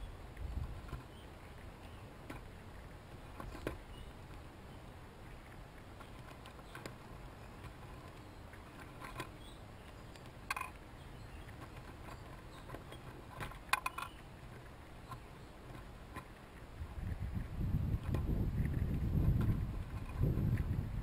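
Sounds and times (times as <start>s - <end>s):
chipmunks gnawing corn: 0.0s - 21.0s
low steady rumble: 0.0s - 21.0s.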